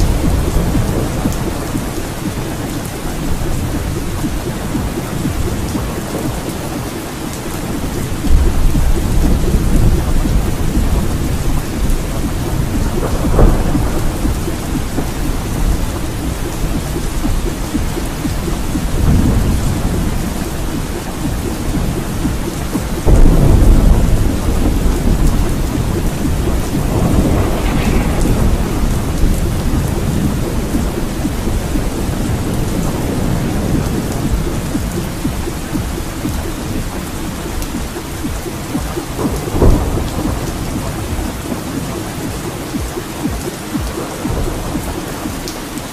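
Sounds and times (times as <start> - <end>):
rolling thunder: 0.0 - 45.9
steady rain: 0.0 - 45.9.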